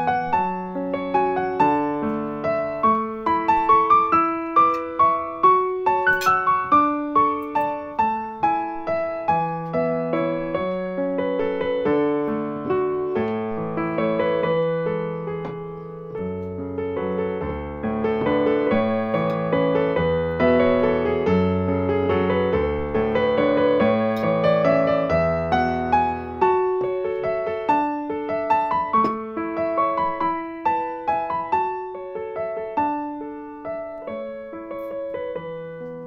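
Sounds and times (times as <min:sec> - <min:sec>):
gentle slow piano music: 0:00.0 - 0:36.0.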